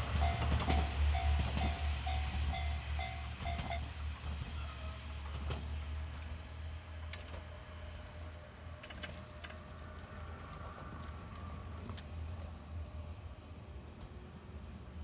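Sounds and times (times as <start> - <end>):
diesel railcar rumble: 0.0 - 15.0.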